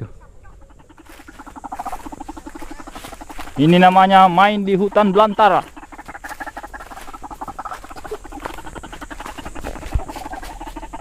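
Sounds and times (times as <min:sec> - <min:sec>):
crackling and rustling underfoot: 0:00.0 - 0:11.0.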